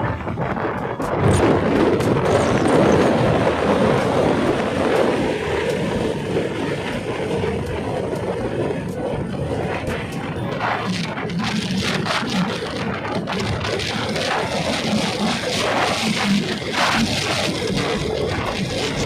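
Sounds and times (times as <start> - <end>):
motorcycle wind and road noise: 0.0 - 19.0.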